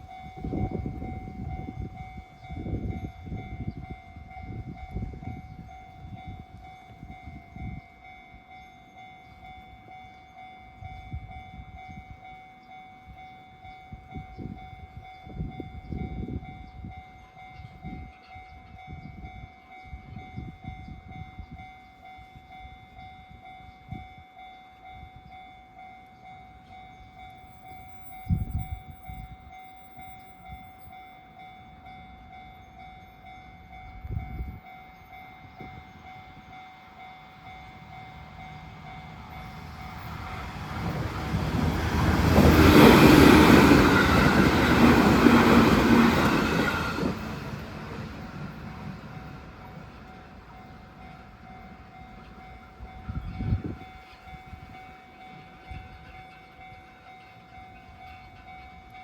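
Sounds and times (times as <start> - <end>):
train rumbling past: 0.0 - 13.3, 13.9 - 59.0.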